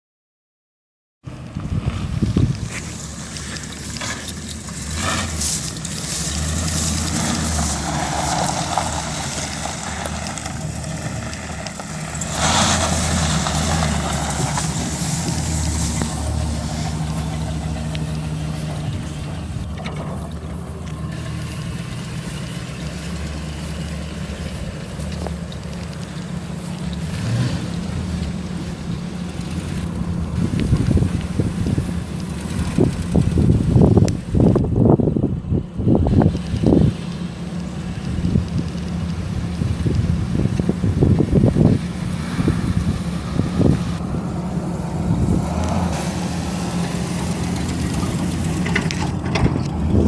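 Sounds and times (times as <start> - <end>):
pickup truck engine running: 1.6 - 50.0.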